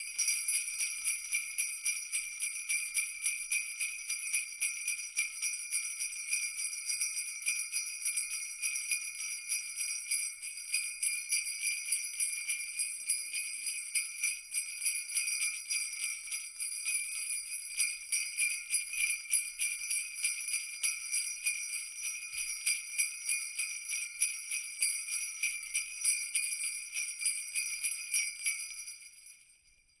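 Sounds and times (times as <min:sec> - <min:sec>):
jingle bells shaken: 0:00.0 - 0:30.0.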